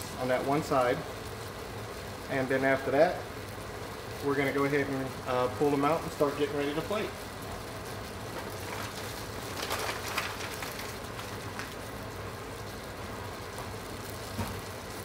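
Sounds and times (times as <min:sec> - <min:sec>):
meat sizzling in a skillet: 0:00.0 - 0:15.0.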